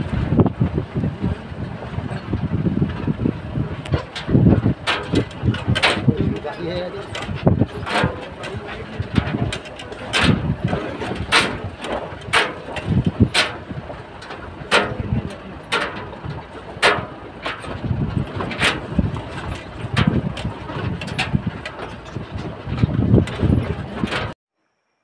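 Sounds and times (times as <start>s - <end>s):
truck engine rumble: 0.0s - 24.4s
vehicle knocks and rattles: 0.0s - 24.4s.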